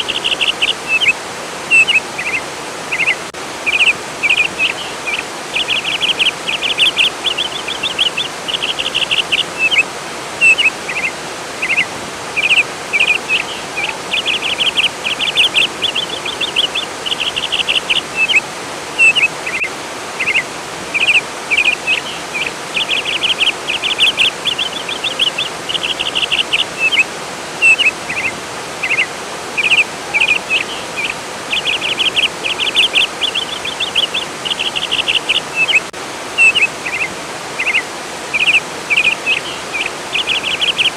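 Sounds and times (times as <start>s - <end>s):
birds trilling: 0.0s - 40.9s
flowing water: 0.0s - 40.9s.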